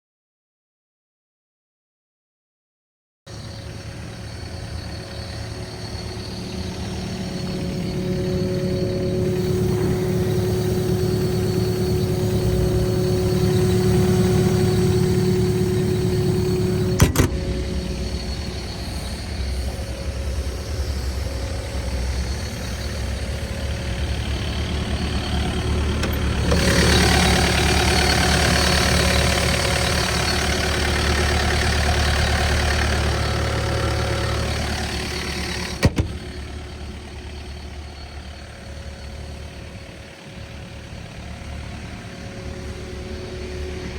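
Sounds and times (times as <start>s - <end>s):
excavator diesel engine running: 3.3s - 43.9s.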